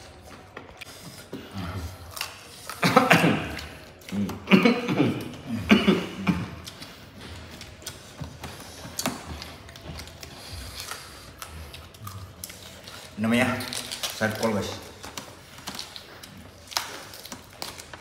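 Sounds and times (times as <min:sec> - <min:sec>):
chewing and crunching: 0:00.0 - 0:18.0.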